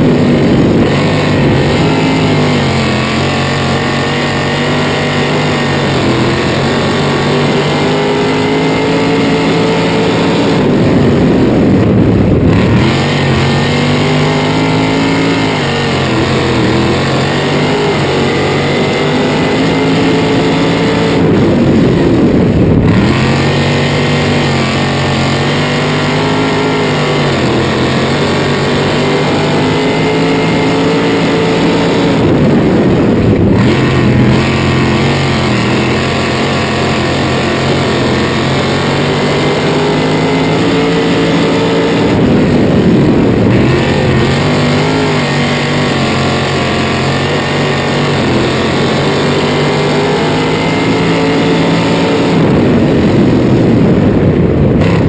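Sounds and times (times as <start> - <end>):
racing car engine: 0.0 - 55.0.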